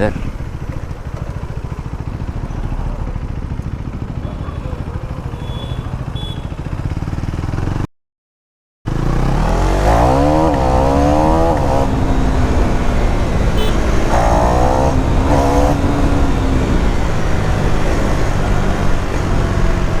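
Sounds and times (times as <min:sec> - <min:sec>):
motorcycle engine revving: 0:00.0 - 0:07.9, 0:08.9 - 0:20.0.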